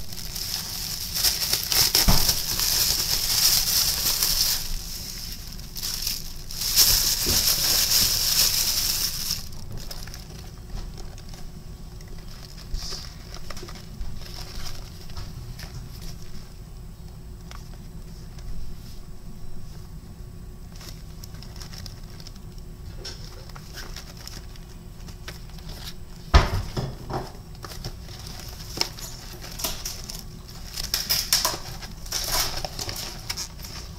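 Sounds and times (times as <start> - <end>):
plastic bag rustling and crinkling: 0.0 - 16.6, 20.7 - 33.9.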